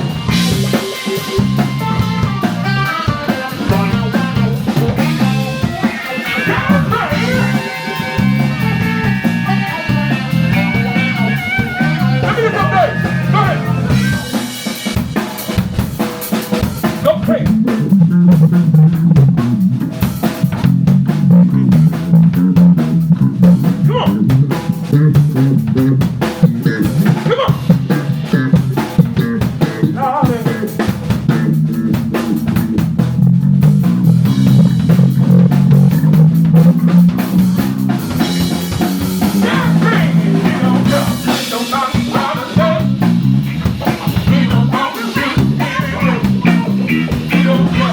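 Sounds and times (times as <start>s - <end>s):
bass line: 0.0s - 47.9s
drum kit: 0.0s - 47.9s
electric guitar: 0.0s - 47.9s.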